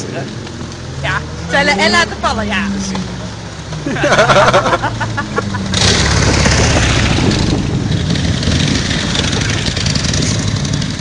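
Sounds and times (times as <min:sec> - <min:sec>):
motorcycle engines running: 0:00.0 - 0:11.0
rushing noise: 0:02.0 - 0:11.0.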